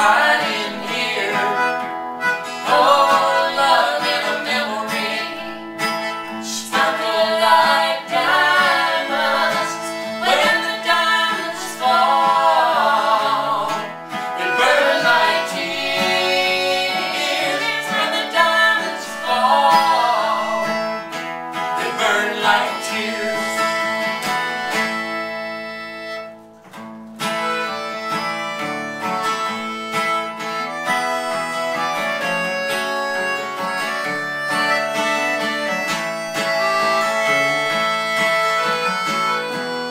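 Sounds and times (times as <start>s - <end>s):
acoustic country string band: 0.0s - 39.9s.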